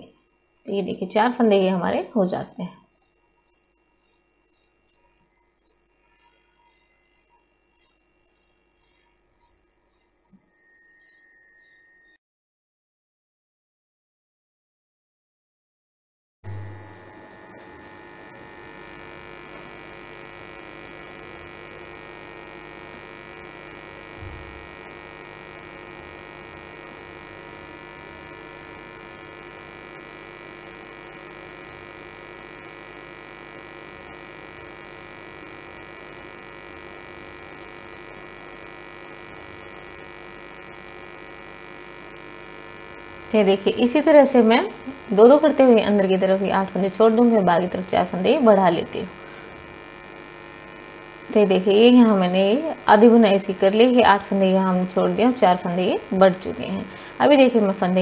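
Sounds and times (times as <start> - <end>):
steady electrical hum: 0.0 - 10.4, 16.5 - 58.0.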